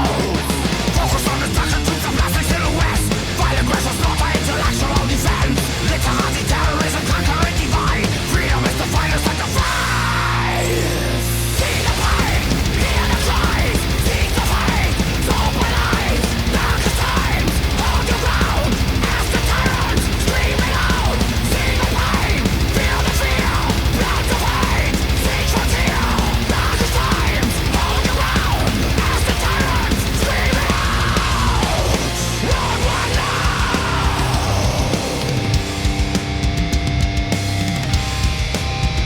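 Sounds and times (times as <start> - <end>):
heavy metal music: 0.0 - 39.0.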